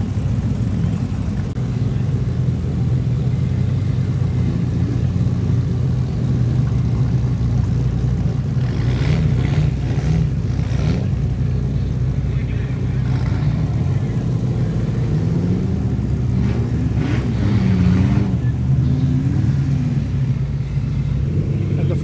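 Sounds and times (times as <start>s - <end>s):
car engine running at low revs: 0.0s - 22.0s.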